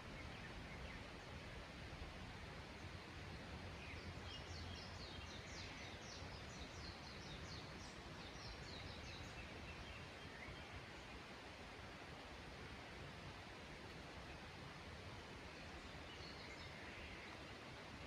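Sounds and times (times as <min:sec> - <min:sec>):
faint forest ambience hiss: 0:00.0 - 0:18.0.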